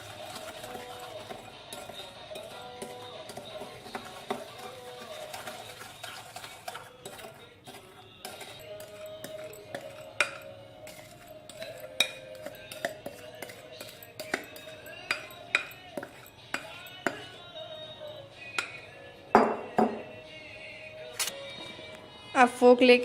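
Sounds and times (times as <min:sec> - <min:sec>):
spoon scraping and clinking bowl: 0:00.0 - 0:20.2
background music: 0:00.0 - 0:23.0.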